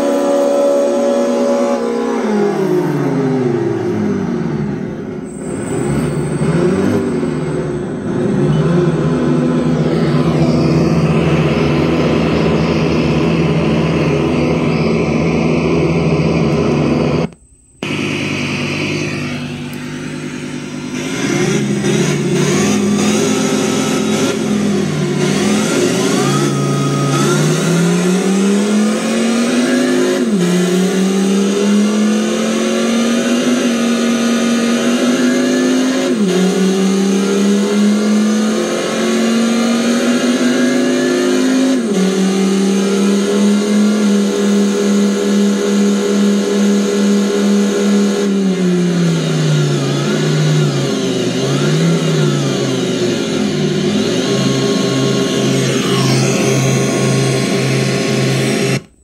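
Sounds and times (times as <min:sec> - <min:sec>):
simulated engine sound from speaker: 0:00.0 - 0:59.0.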